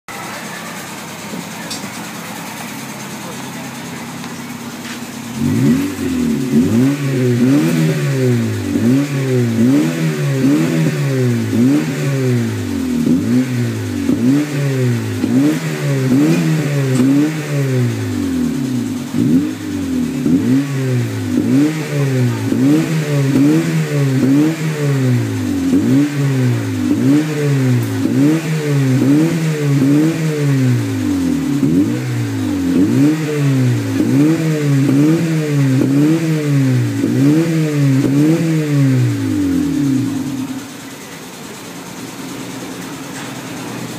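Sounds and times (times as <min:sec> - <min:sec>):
car engine revving: 0:00.1 - 0:43.9.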